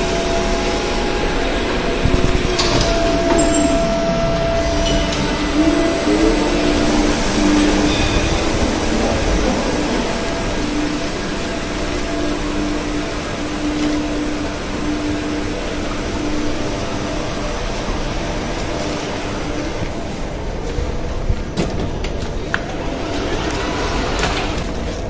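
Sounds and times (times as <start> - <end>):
low hum: 0.0 - 21.4
lift car rushing through shaft: 0.0 - 25.0.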